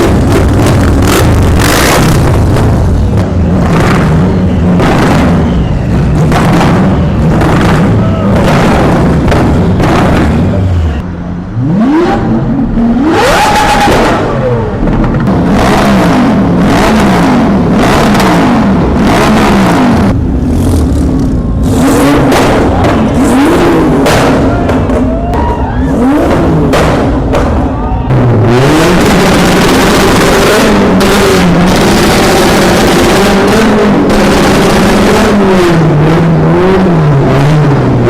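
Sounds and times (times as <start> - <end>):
sharp sudden bangs: 0.0 - 11.0, 13.1 - 33.5
engines revving loudly: 0.0 - 38.0
exhaust drone: 0.0 - 38.0.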